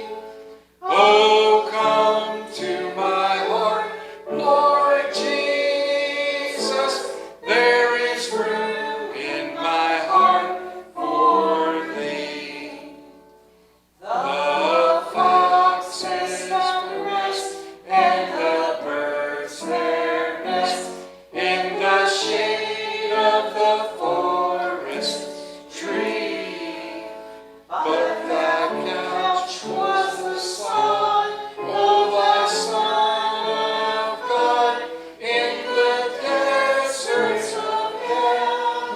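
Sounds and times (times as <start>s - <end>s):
congregation singing a hymn: 0.0s - 13.3s, 14.0s - 38.9s.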